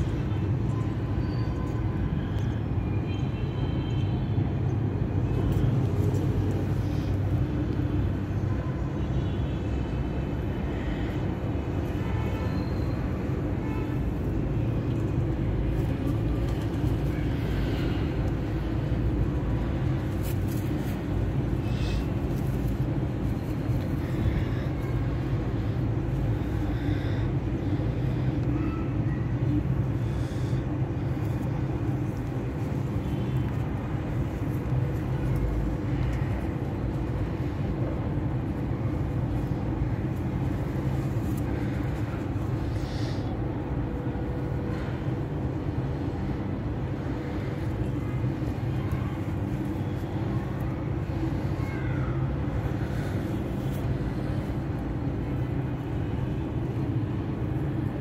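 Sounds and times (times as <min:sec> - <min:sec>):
faint hum: 0:00.0 - 0:58.0
low background rumble: 0:10.4 - 0:58.0.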